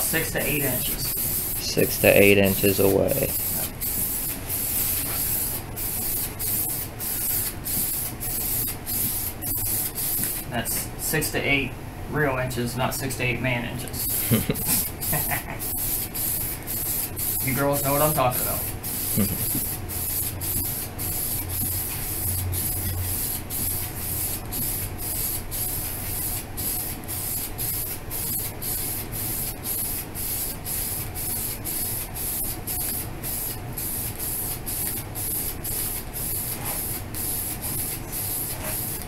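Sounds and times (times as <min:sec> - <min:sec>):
aerosol spray can hissing: 0:00.0 - 0:10.5, 0:14.0 - 0:39.0.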